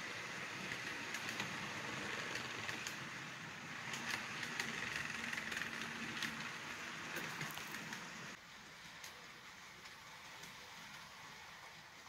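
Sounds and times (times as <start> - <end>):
model train rolling hum: 0.0 - 12.0
wheels clicking over rail joints: 0.0 - 12.0.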